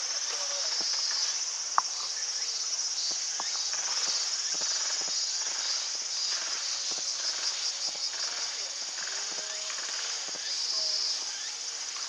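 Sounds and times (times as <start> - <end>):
insect chorus shrilling: 0.0 - 12.0.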